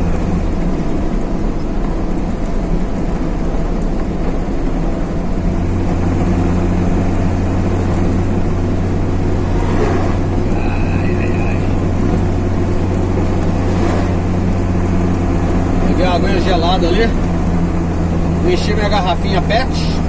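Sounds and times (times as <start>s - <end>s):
truck engine and tyre drone: 0.0s - 20.0s.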